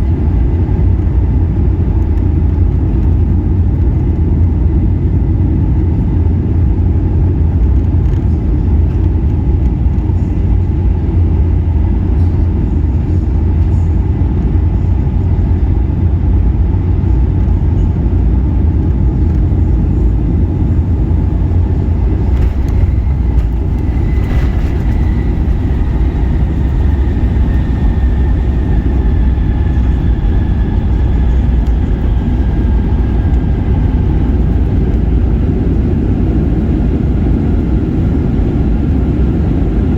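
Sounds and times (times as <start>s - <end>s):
aircraft cabin engine rumble: 0.0s - 39.9s
high engine whine: 0.0s - 39.9s.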